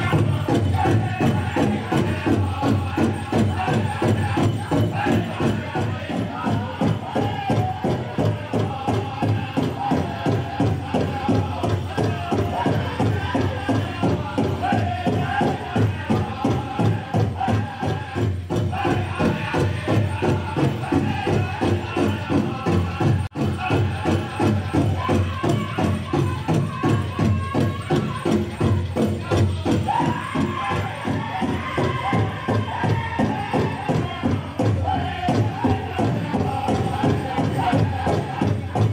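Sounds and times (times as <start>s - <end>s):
group singing high-pitched: 0.0s - 38.9s
large drum fast beat: 0.0s - 38.9s.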